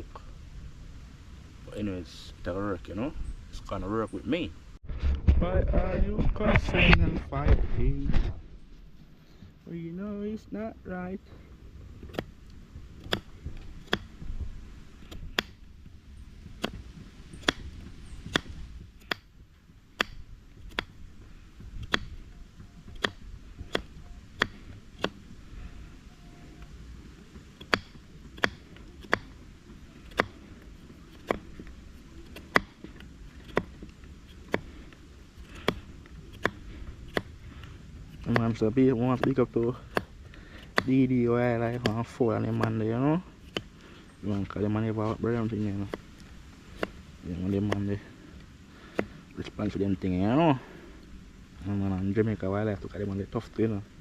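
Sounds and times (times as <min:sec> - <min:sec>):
faint low rumble: 0:00.0 - 0:54.0.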